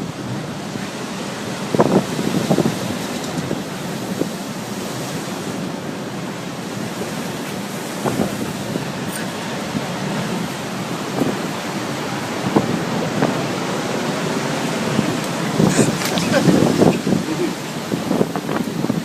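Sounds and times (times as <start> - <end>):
rough sea surf: 0.0 - 19.0
storm wind: 0.0 - 19.0
wind buffeting microphone: 0.0 - 19.0.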